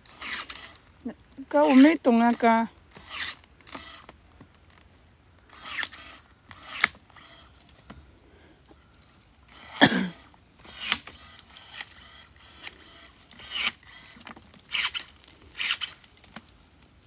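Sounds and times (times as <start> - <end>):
hand tool cutting roots and soil: 0.0 - 4.9, 5.5 - 7.9, 9.2 - 17.0.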